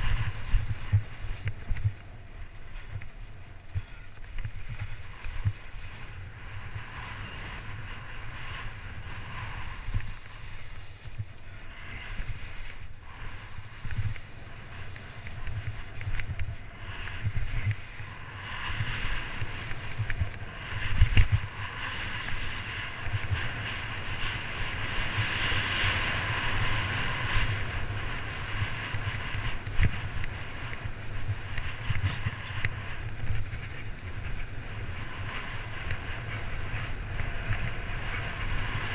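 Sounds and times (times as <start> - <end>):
skis scraping over snow: 0.0 - 38.9
wind on microphone: 0.0 - 38.9.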